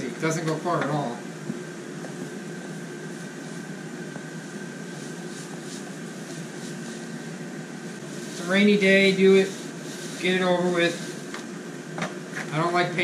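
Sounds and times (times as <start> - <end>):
dehumidifier hum and fan hiss: 0.0 - 13.0.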